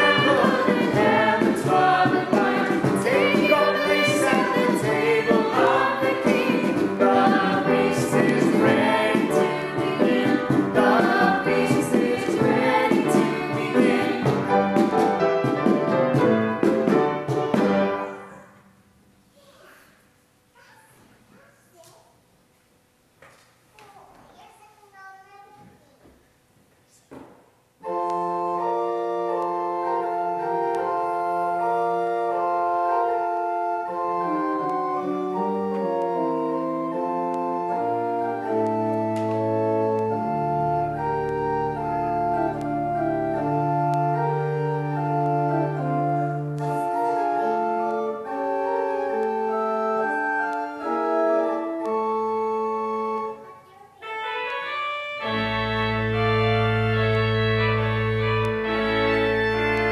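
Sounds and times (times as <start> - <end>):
pipe organ playing chords: 0.0 - 18.5, 27.8 - 59.9.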